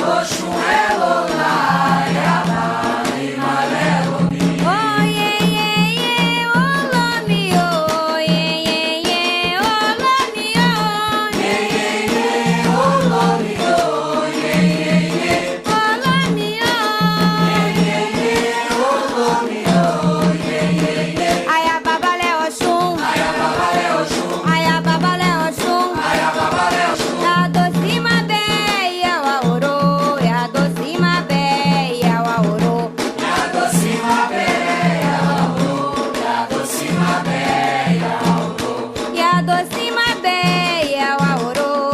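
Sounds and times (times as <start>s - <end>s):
voices singing a chant: 0.0s - 7.8s, 10.5s - 28.7s, 31.3s - 41.9s
hand drums beating: 0.0s - 41.9s.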